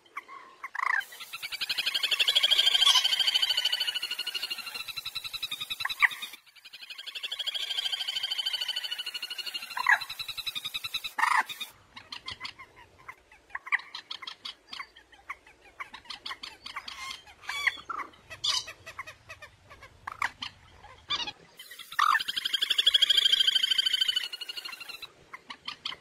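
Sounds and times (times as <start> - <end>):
moorhen calls: 0.2 - 26.0.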